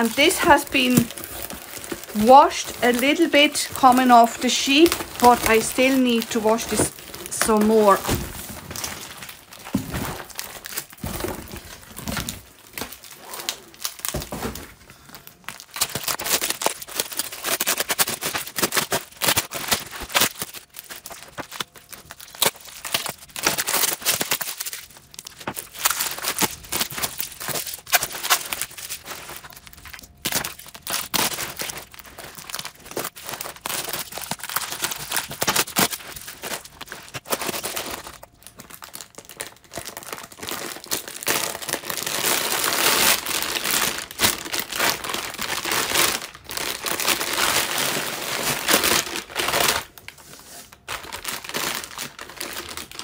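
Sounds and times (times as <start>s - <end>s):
plastic packaging crinkling and tearing: 0.0s - 53.0s.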